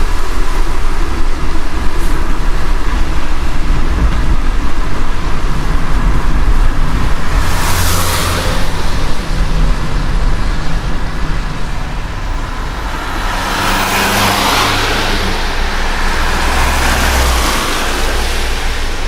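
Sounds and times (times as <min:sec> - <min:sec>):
car engine and road drone: 0:00.0 - 0:19.0
wet road hiss: 0:00.0 - 0:19.0.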